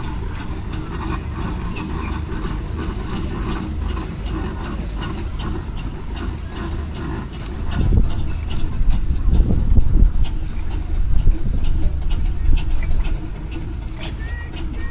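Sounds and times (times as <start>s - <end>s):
steam engines rumbling: 0.0s - 14.9s.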